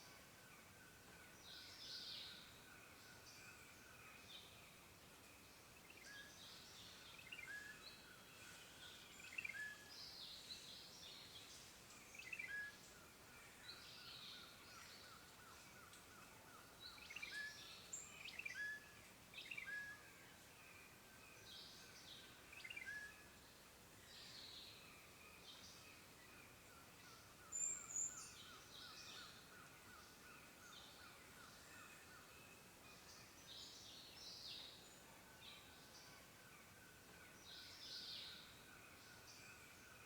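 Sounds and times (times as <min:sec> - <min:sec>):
faint background hiss: 0:00.0 - 0:40.0.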